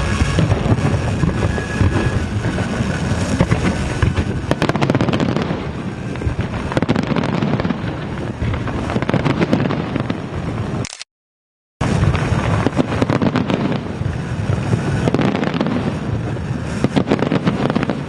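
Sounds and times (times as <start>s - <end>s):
fireworks booming: 0.0s - 10.8s, 11.8s - 18.0s
fireworks crackling: 0.0s - 10.8s, 11.8s - 18.0s.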